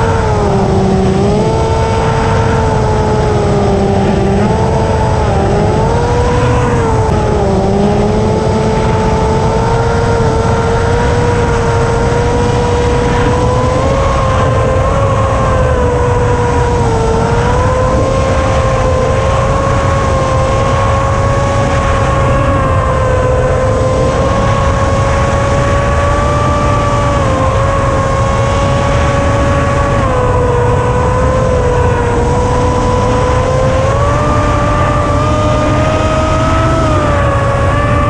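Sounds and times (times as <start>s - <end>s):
electric motor and propeller whining: 0.0s - 38.0s
wind rushing on microphone: 0.0s - 38.0s.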